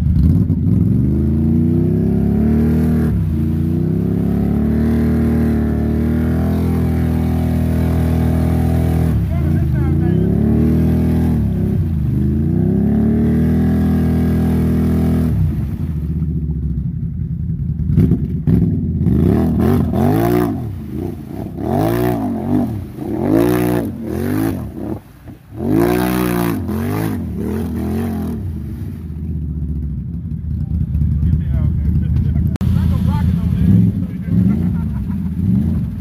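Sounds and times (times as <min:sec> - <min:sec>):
atv engine revving: 0:00.0 - 0:36.0.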